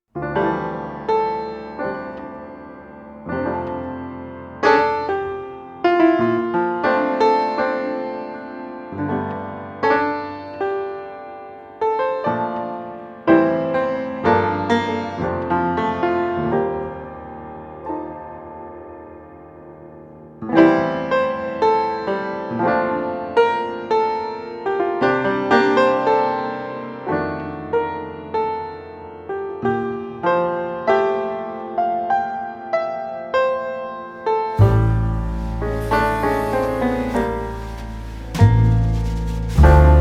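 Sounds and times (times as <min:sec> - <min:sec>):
piano notes and chords: 0:00.2 - 0:22.9, 0:26.3 - 0:40.0.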